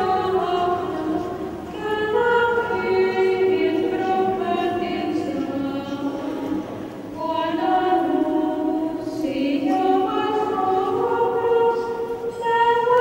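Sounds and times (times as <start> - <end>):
choir singing a slow hymn: 0.0 - 13.0.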